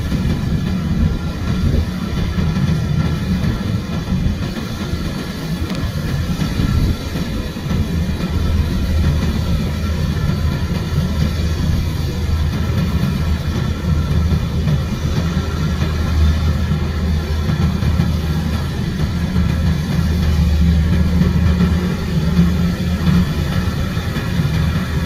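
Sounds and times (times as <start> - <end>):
diesel engine running: 0.0 - 25.0
machinery whirring: 0.0 - 25.0.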